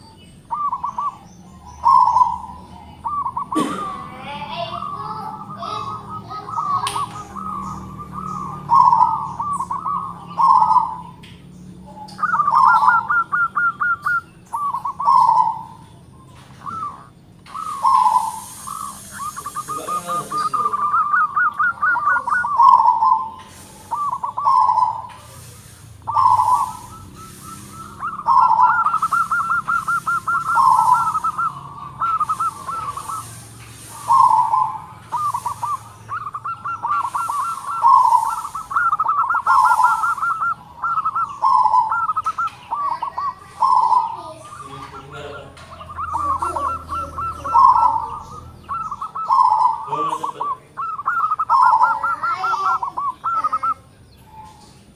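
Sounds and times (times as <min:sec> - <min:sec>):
dove cooing: 0:00.0 - 0:11.2, 0:11.8 - 0:54.9.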